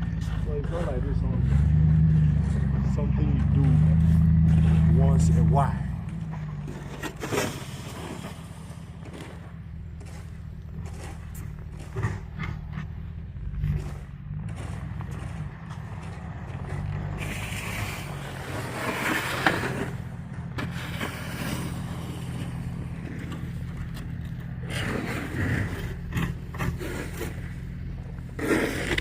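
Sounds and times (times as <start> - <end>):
scraping noises: 0.0 - 29.0
vehicle engine running: 0.0 - 29.0.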